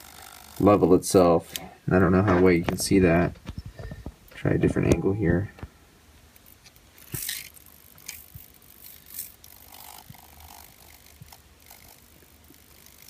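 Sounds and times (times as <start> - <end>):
faint buzz: 0.0 - 13.0.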